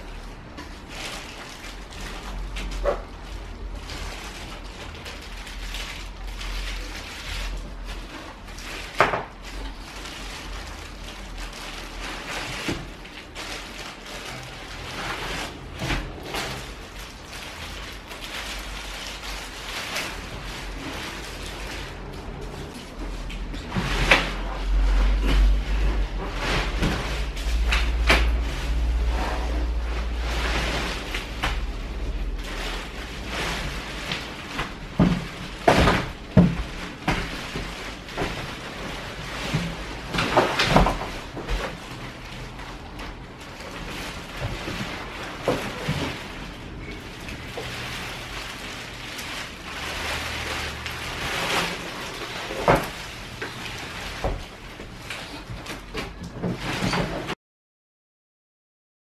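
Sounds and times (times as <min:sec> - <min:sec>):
deep rumble: 0:00.0 - 0:55.3
plastic and foil crinkling: 0:00.0 - 0:57.4.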